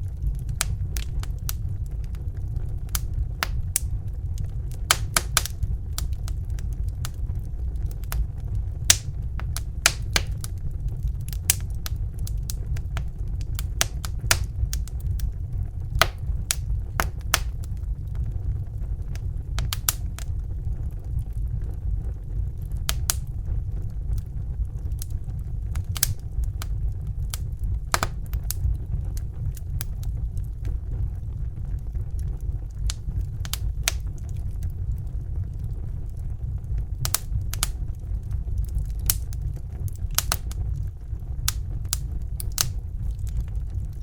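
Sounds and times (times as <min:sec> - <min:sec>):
fire crackling and popping: 0:00.0 - 0:44.0
fire low rumble: 0:00.0 - 0:44.0.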